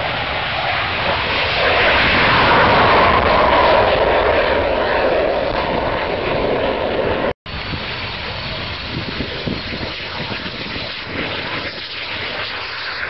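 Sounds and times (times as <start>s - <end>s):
jet fighter taking off: 0.0s - 13.0s.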